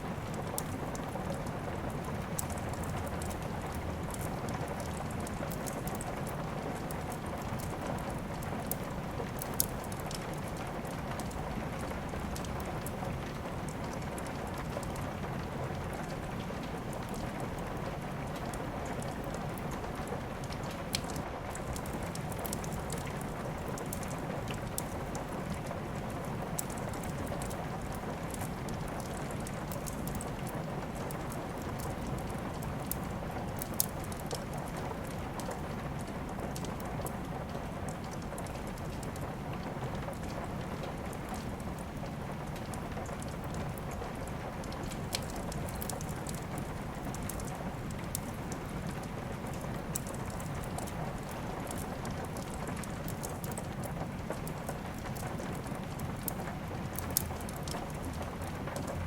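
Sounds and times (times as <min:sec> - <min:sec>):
steady rain: 0:00.0 - 0:59.0
wood fire crackling and popping: 0:00.0 - 0:59.0.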